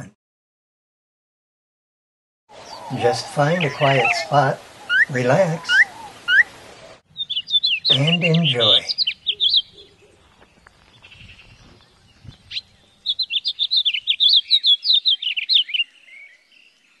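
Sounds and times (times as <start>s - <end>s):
bird warbling song: 2.5s - 17.0s
finches chirping: 2.5s - 17.0s.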